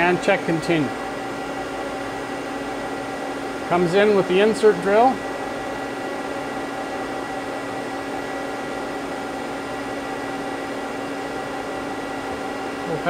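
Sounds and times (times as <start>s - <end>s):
machine hum with fans: 0.0s - 13.0s.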